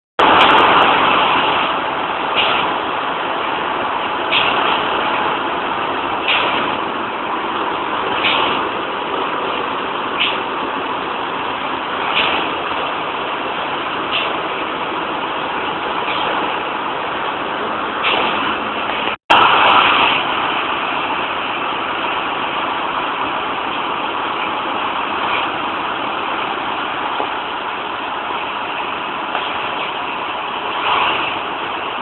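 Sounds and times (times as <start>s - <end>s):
engine room machinery din: 0.2s - 32.0s.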